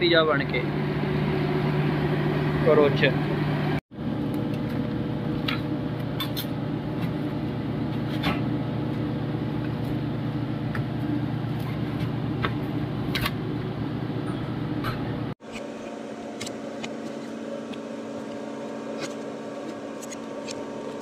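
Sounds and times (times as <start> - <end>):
kitchen equipment hum: 0.0 - 21.0.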